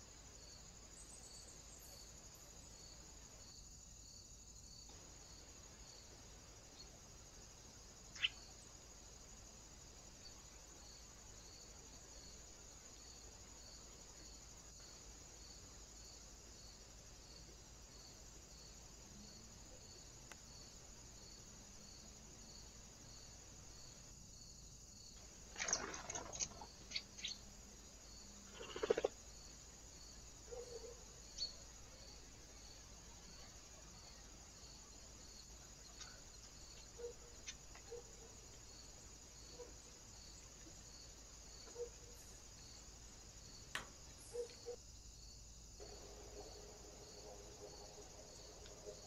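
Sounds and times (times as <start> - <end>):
outdoor background hiss: 0.0 - 49.0.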